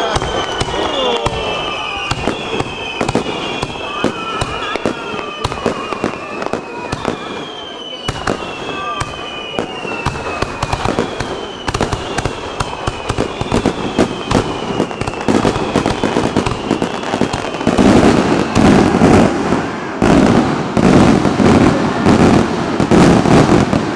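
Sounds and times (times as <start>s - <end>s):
fireworks crackling and popping: 0.0s - 23.9s
fireworks falling whistles: 0.0s - 23.9s.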